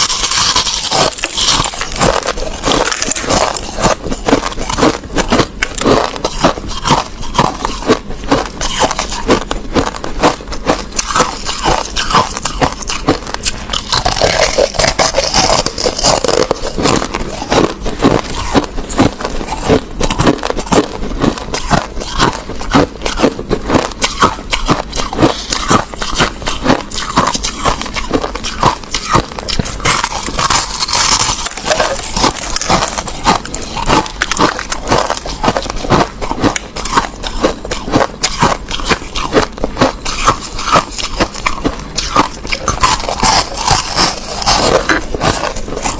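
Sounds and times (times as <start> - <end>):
crushed ice being chewed: 0.0 - 45.9.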